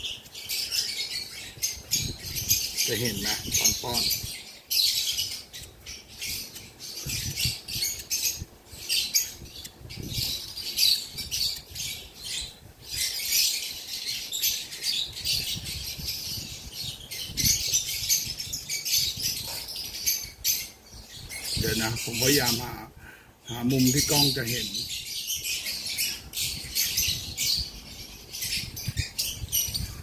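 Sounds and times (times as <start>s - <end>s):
lovebirds chirping and squawking: 0.0s - 30.0s.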